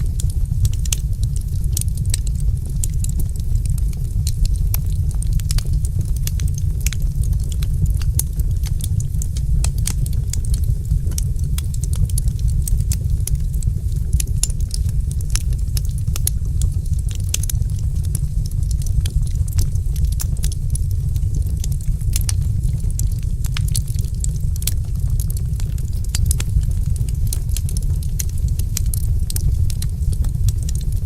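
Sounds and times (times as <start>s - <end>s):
fire crackling and popping: 0.0s - 31.0s
rumble of flames: 0.0s - 31.0s.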